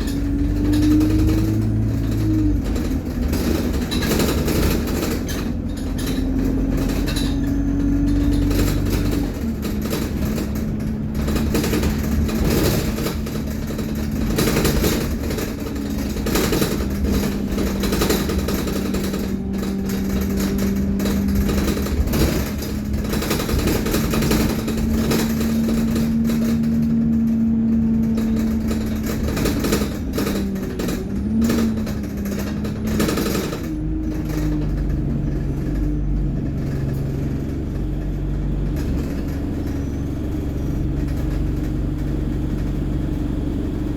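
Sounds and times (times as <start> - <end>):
bus driveline drone: 0.0 - 43.9
dense rattling: 0.0 - 43.9.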